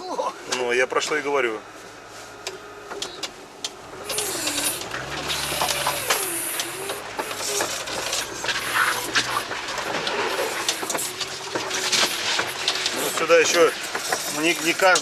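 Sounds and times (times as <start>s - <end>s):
vehicle drivetrain whine: 0.4s - 15.0s.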